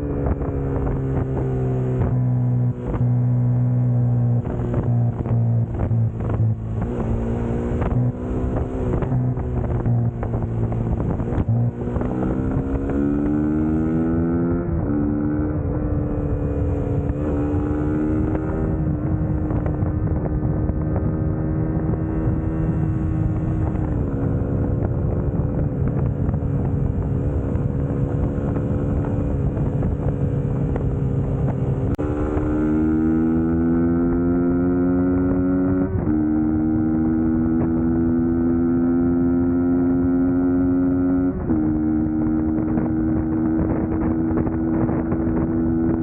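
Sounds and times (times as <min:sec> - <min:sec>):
motorcycle engine revving: 0:00.0 - 0:46.0
wind on microphone: 0:00.0 - 0:46.0.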